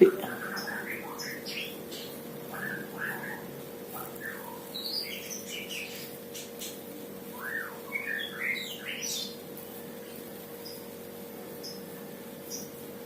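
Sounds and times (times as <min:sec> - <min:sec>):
small bird chirping: 0:00.0 - 0:09.4, 0:10.1 - 0:12.8
steady hum: 0:00.0 - 0:13.0.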